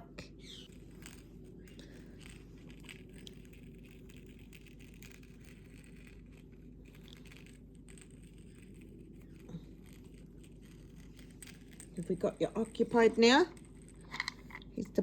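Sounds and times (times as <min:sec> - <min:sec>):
faint clicks and scratches: 0:00.0 - 0:15.0
low steady hum: 0:00.0 - 0:15.0.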